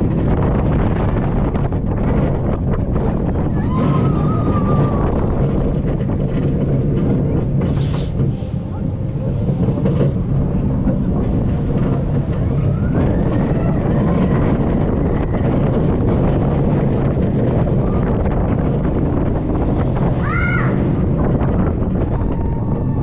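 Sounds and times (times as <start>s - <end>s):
roller coaster train rumbling: 0.0s - 23.0s
wind on microphone: 0.0s - 23.0s.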